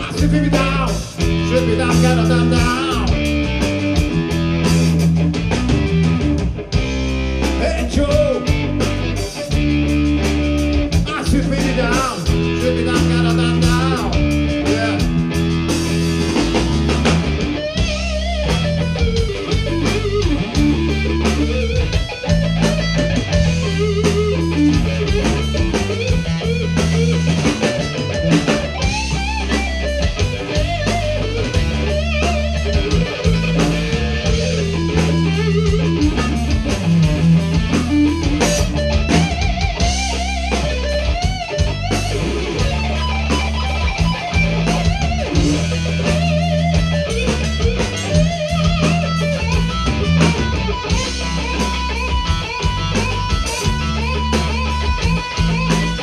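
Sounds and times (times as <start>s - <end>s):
bass guitar: 0.0s - 56.0s
electric guitar: 0.0s - 56.0s
steady drum beat: 0.0s - 56.0s.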